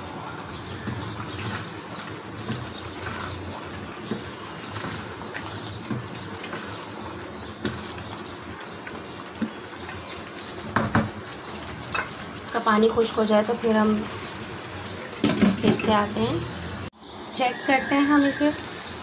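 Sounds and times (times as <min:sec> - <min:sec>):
wooden spatula stirring: 0:00.0 - 0:15.8
food bubbling and sizzling: 0:00.0 - 0:19.0.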